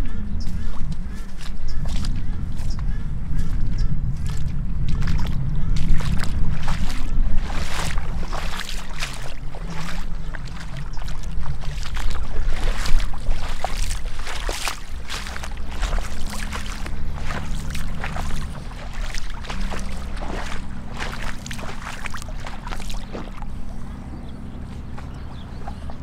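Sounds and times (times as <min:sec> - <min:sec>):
boots splashing through water: 0:00.0 - 0:26.0.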